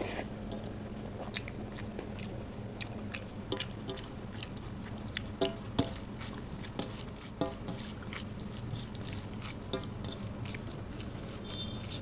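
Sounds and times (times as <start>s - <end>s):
steady low hum: 0.0s - 12.0s
wet chewing and mouth smacks: 0.0s - 12.0s.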